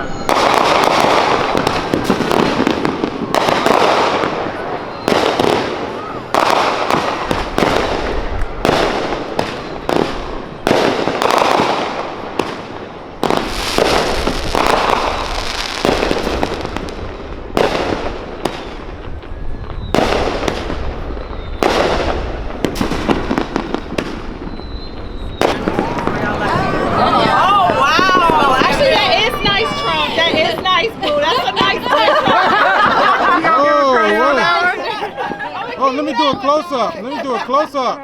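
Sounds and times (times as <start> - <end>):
fireworks banging: 0.0 - 37.7.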